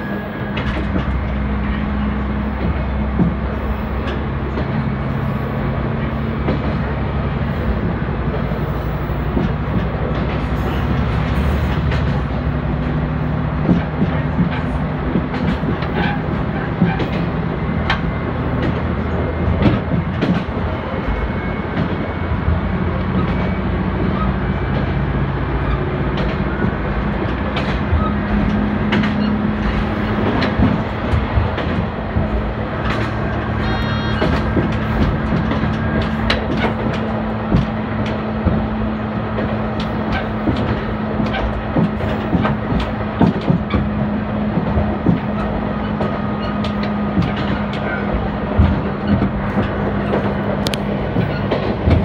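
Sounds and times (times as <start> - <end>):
diesel railcar engine drone: 0.0 - 52.0
wheels clicking over rail joints: 0.0 - 52.0.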